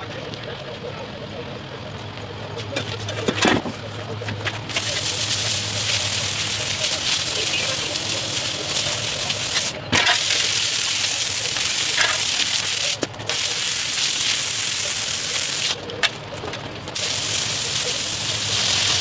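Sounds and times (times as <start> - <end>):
pressure washer spraying paving: 2.5 - 19.0.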